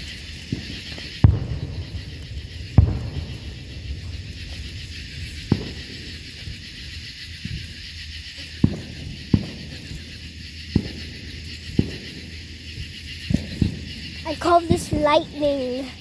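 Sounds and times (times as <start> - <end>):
firework hissing: 0.0 - 16.0
firework sharp pops: 0.0 - 16.0.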